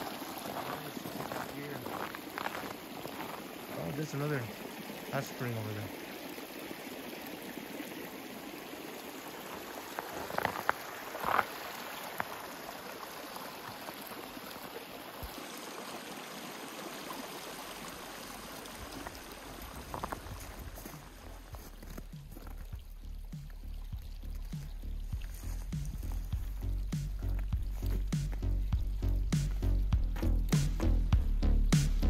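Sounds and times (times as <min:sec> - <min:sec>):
water rushing along channel: 0:00.0 - 0:32.0.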